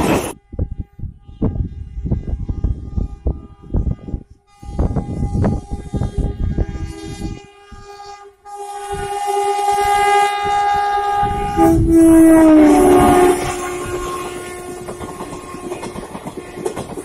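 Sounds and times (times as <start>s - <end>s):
locomotive horn blast: 0.3s - 16.7s.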